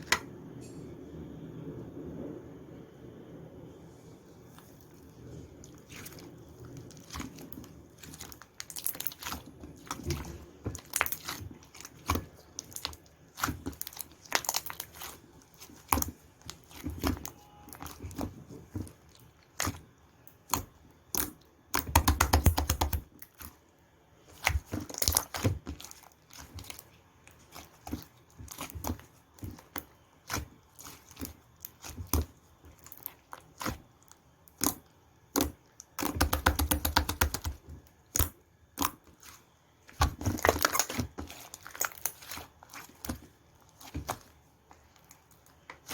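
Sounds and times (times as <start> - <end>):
slime squished by hand crackling: 5.6 - 23.6, 24.2 - 45.9.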